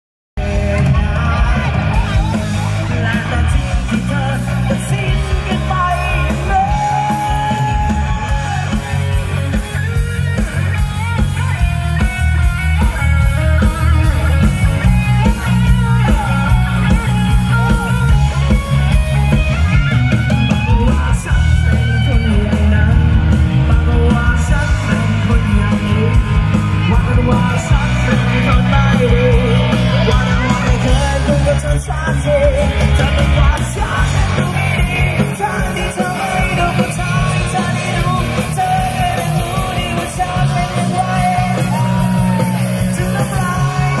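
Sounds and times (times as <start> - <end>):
person singing: 0.4 - 19.1, 20.5 - 44.0
electric bass line: 0.4 - 44.0
live rock band: 0.4 - 44.0.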